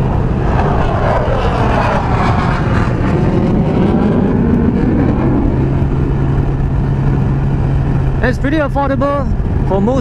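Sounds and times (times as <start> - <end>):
wind rush on microphone: 0.0 - 10.0.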